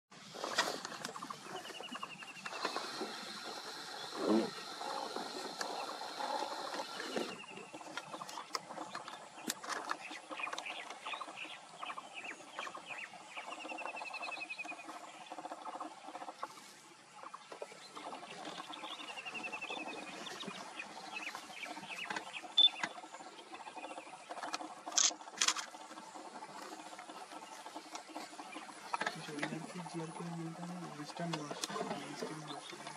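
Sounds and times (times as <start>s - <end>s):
small birds chirping: 0.9s - 32.9s.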